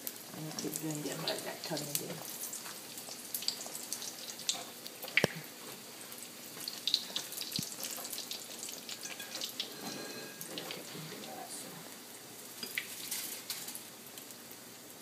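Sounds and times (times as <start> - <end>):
cakes sizzling in hot oil: 0.0 - 15.0.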